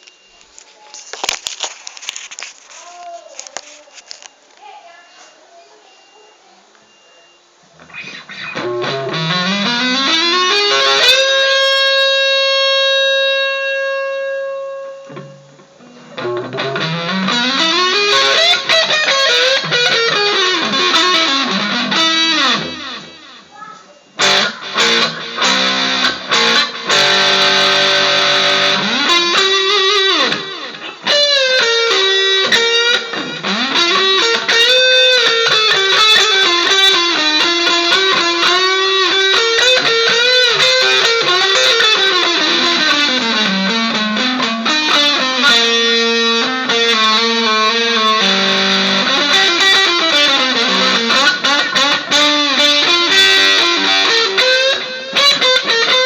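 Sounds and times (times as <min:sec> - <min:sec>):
distorted electric guitar lead: 0:07.7 - 0:56.0.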